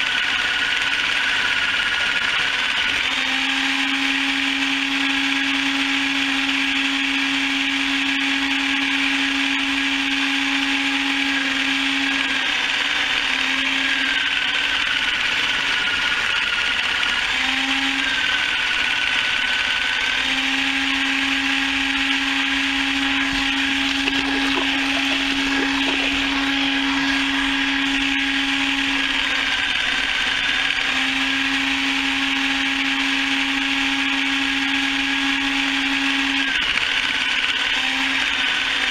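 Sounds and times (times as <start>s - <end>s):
chicken plucker motor whirring: 0.0s - 38.9s.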